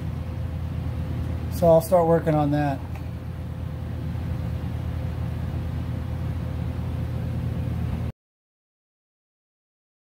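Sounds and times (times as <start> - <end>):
faint steady hum: 0.0 - 8.1.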